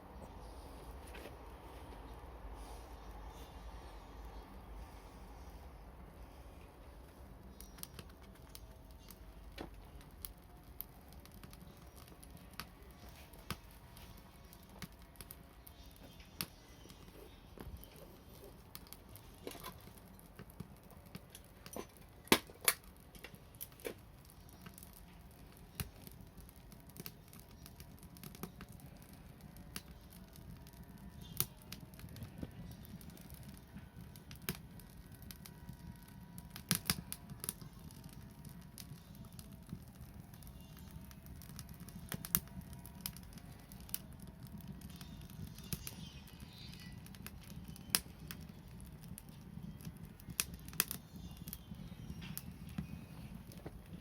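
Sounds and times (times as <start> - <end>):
wood fire crackling: 0.0 - 54.0
burning wood popping: 0.1 - 54.0.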